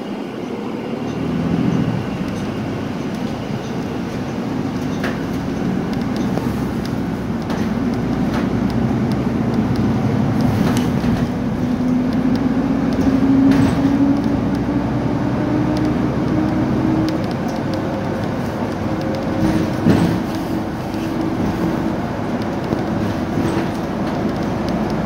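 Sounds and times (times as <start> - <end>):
bus engine drone: 0.0 - 25.0
road noise: 0.0 - 25.0.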